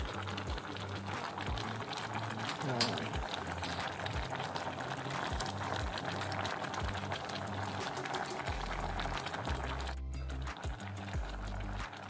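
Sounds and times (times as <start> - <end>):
broth boiling: 0.0 - 12.0
low music: 0.0 - 12.0.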